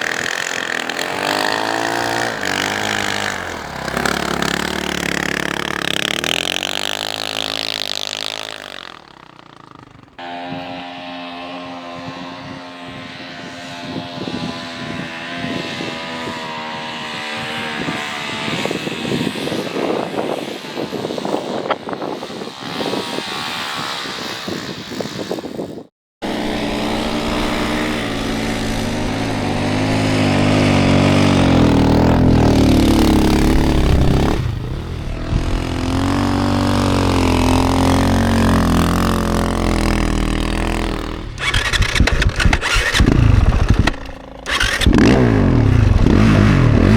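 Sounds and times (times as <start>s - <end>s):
snowbike engine revving: 0.0s - 46.9s.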